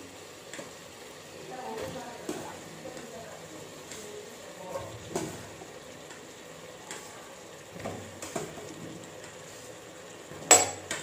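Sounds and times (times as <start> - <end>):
faint sizzle from pot: 0.0 - 11.0.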